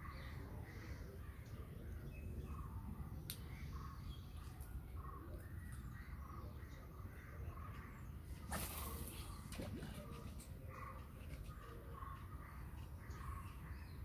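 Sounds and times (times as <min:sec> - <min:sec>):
faint birds calling: 0:00.0 - 0:14.0.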